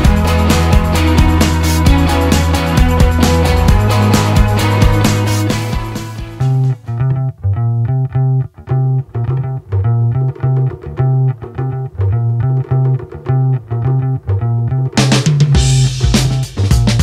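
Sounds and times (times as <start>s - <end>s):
choppy low bass riff: 0.0s - 17.0s.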